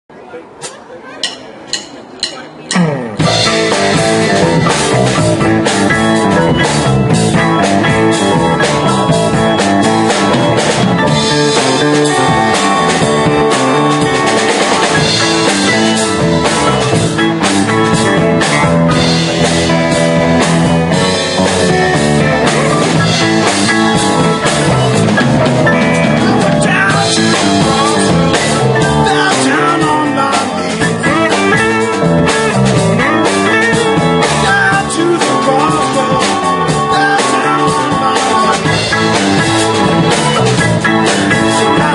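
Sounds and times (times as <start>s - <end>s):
live rock band playing: 0.7s - 41.9s.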